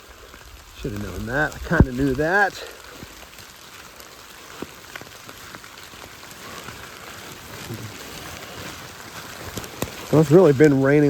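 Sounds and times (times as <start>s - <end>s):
raindrops ticking: 0.0s - 11.0s
steady rain hiss: 0.0s - 11.0s.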